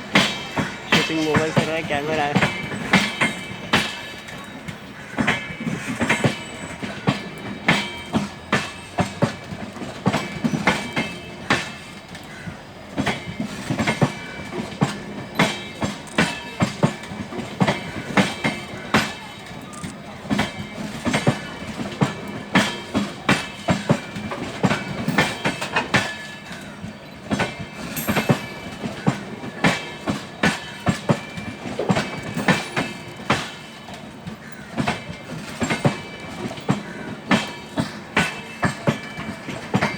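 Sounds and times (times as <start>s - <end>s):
train rolling rumble: 0.0s - 39.9s
train wheels clattering: 0.0s - 39.9s.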